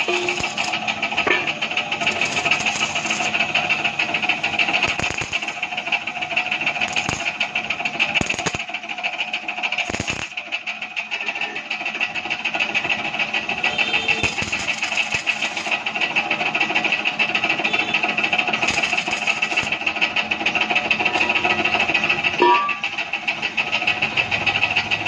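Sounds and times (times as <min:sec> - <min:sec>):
paint sprayer rattling buzz: 0:00.0 - 0:10.6, 0:12.2 - 0:24.0.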